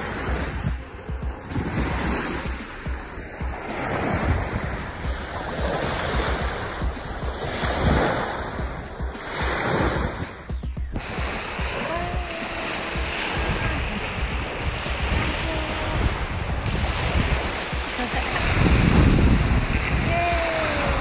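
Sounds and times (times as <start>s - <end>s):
rushing splashing water: 0.0s - 21.0s
wind buffeting microphone: 0.0s - 21.0s.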